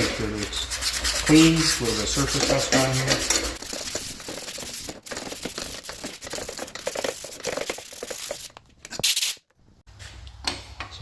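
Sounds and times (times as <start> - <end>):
sandpaper scratching on metal: 0.3 - 9.4.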